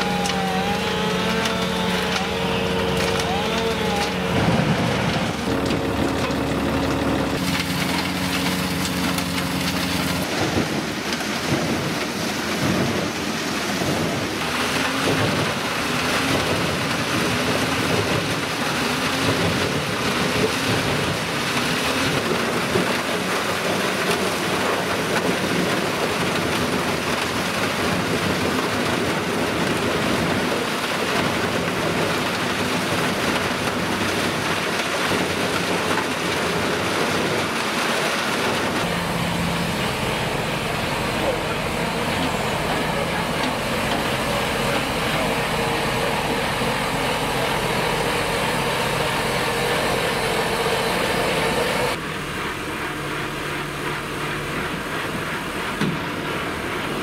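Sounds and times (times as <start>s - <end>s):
engine hum: 0.0s - 57.0s
wood chipper crackling: 0.0s - 57.0s.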